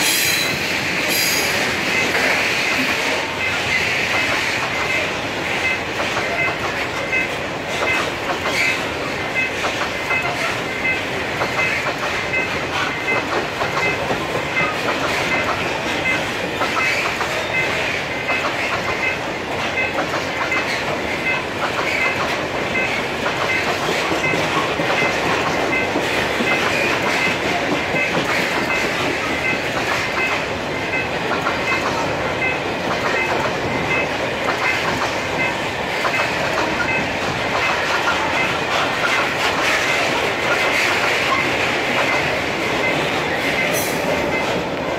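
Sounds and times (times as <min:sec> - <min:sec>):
train wheels clattering over rail joints: 0:00.0 - 0:44.9.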